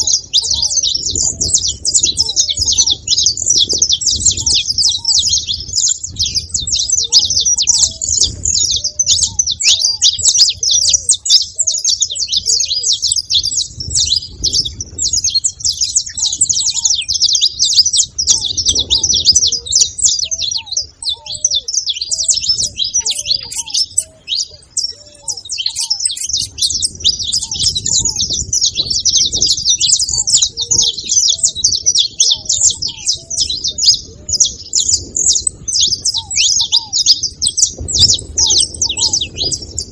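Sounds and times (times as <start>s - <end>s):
finches chirping in chorus: 0.0s - 39.9s.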